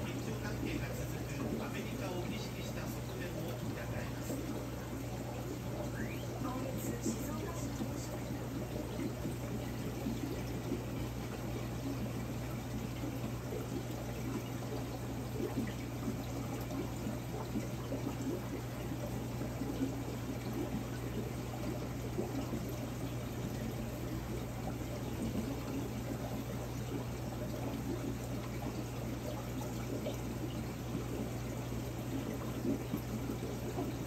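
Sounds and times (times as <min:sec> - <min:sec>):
aquarium water burbling and trickling: 0:00.0 - 0:34.0
low equipment hum: 0:00.0 - 0:34.0.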